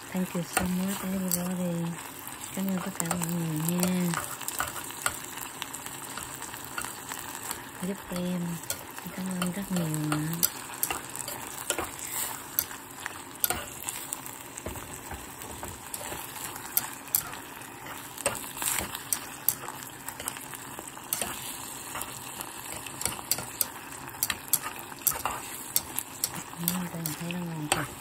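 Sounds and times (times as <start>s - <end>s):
meat and onions sizzling in a pot: 0.0s - 28.0s
tongs clicking and scraping a pot: 0.5s - 28.0s.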